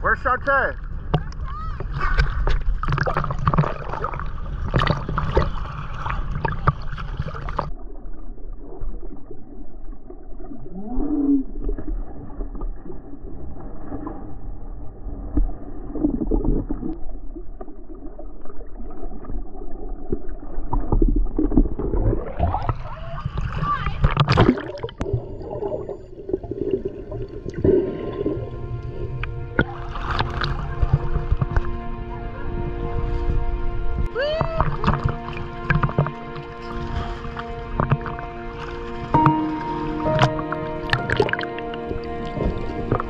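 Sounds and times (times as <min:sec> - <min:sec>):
muffled splashes of people diving: 0:00.0 - 0:43.0
seawater sloshing and gurgling: 0:00.6 - 0:43.0.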